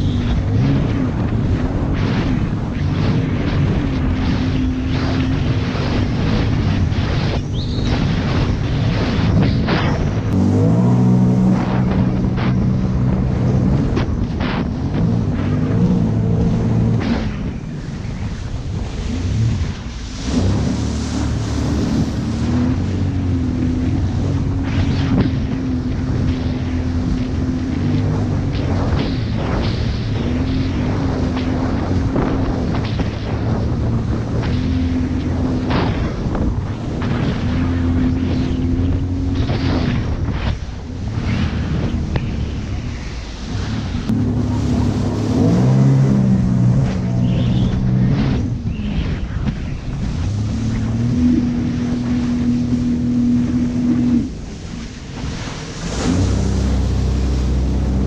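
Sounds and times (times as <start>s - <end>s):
jet ski engine running: 0.0s - 58.0s
water splashing: 0.0s - 58.0s
wind buffeting microphone: 0.0s - 58.0s.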